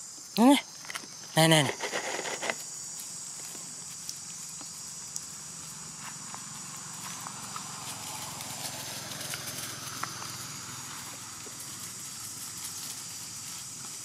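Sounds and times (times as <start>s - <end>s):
steady high hiss: 0.0s - 14.0s
dry leaves crackling underfoot: 0.2s - 14.0s.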